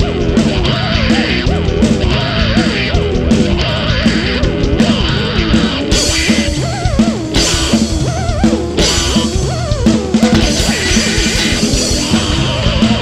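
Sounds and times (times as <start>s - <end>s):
indie rock song: 0.0s - 13.0s.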